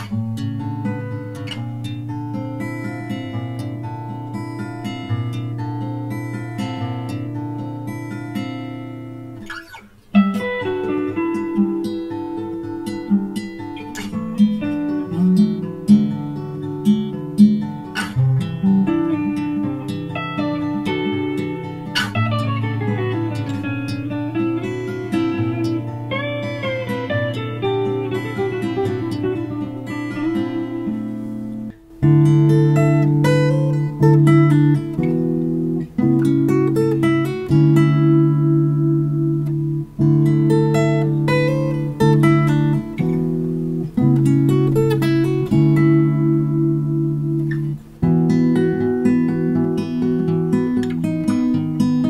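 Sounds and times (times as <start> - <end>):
acoustic guitar plucking and strumming: 0.0 - 52.0.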